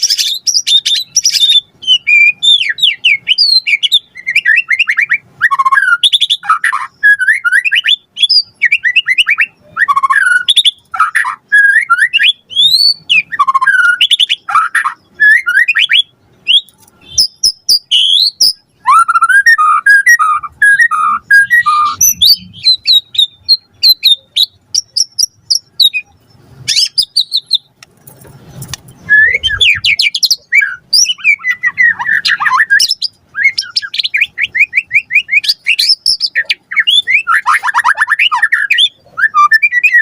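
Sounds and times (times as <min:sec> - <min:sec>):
bird singing whistles and trills: 0:00.0 - 0:27.7, 0:29.0 - 0:40.0.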